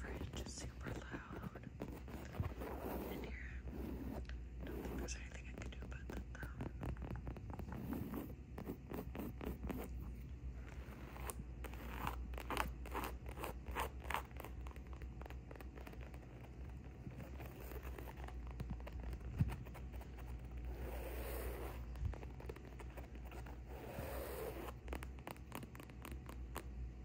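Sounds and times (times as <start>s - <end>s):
fingernails scratching fabric: 0.0s - 26.7s.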